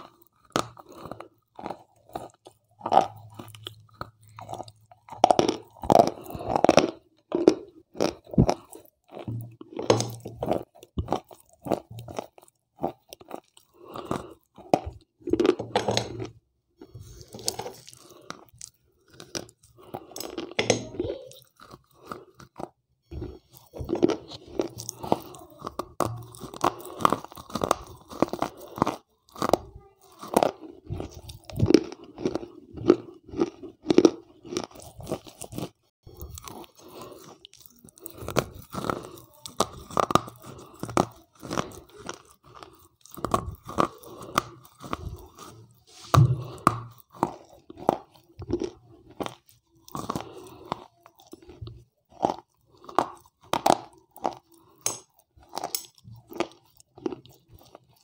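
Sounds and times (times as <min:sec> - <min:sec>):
crunchy biting and chewing: 0:00.0 - 0:58.0.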